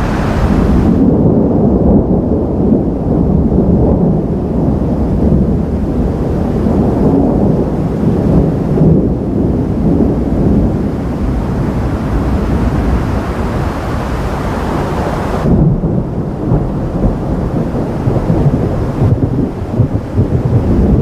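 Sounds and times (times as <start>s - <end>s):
rain hissing: 0.0s - 21.0s
thunder rumbling: 0.0s - 21.0s.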